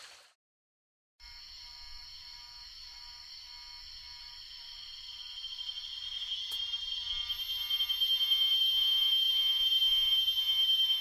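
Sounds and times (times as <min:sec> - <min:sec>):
insect chorus with cicadas: 0:01.2 - 0:11.0.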